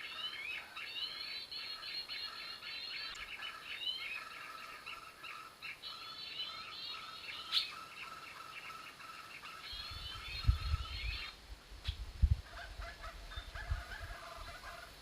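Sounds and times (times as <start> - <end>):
songbird chattering: 0.0 - 12.0.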